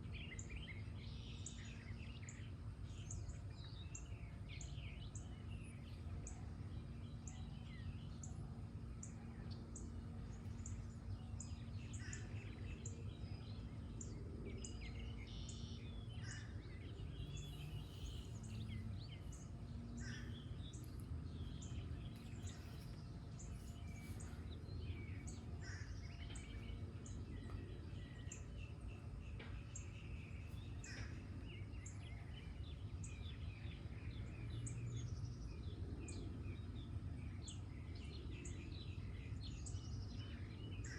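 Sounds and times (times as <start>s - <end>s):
birds singing: 0.0s - 40.9s
low background rumble: 0.0s - 40.9s.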